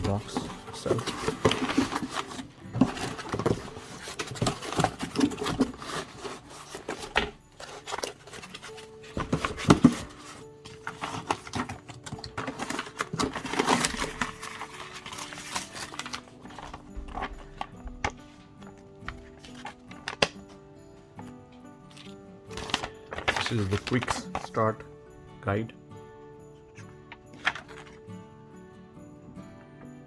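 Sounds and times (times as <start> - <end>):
cardboard packaging being handled: 0.0 - 20.6, 21.9 - 24.8, 26.8 - 28.0
background music with held notes: 0.0 - 30.0.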